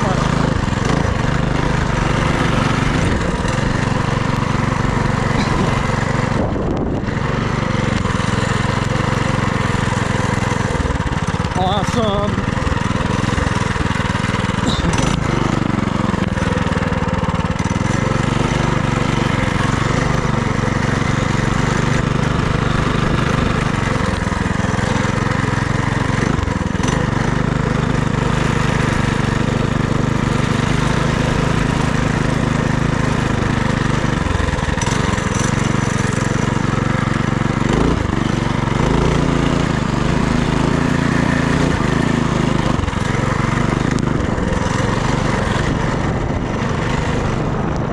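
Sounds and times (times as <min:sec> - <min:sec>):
minibike engine running: 0:00.0 - 0:47.9.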